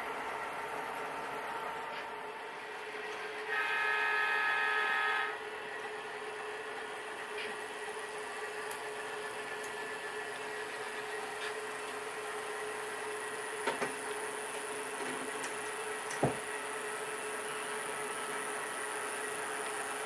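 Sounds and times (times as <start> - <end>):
model train motor hum: 0.0 - 20.0.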